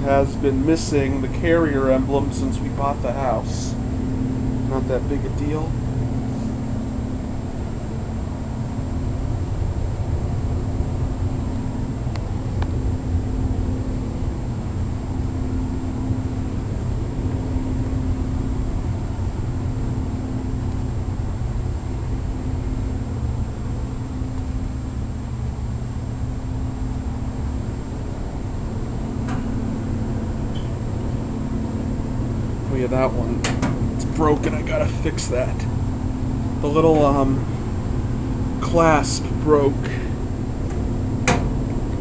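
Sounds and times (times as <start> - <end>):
air conditioning units humming: 0.0 - 42.0.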